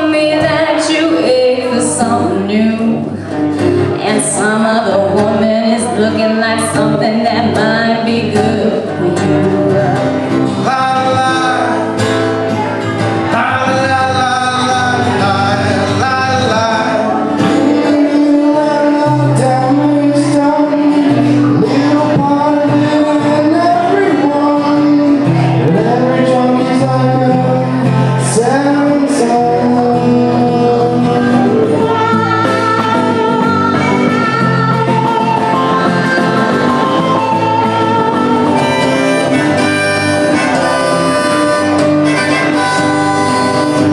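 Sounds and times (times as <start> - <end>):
guitar accompaniment: 0.0 - 43.9
person singing: 0.0 - 43.9.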